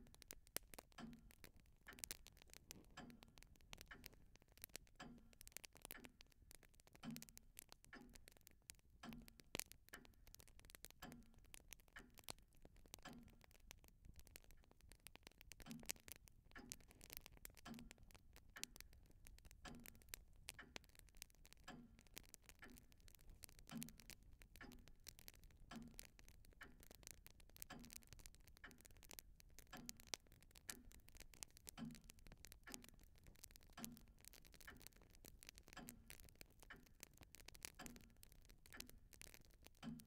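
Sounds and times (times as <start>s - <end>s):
clock ticking: 0.0s - 40.0s
fine continuous crackle: 0.0s - 40.0s.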